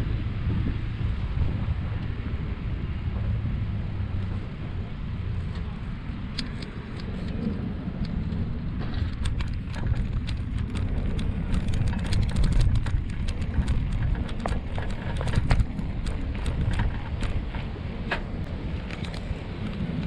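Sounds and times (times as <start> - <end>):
wind buffeting microphone: 0.0 - 20.0
bicycle rattling over cobblestones: 3.1 - 20.0.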